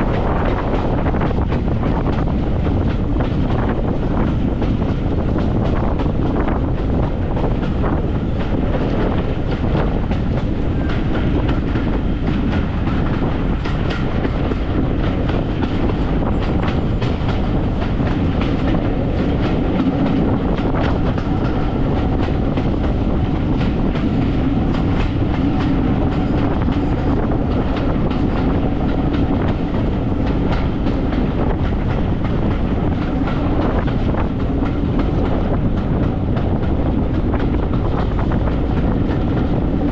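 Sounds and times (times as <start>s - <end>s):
train rumbling along track: 0.0s - 39.9s
wheels clicking over rail joints: 0.0s - 39.9s.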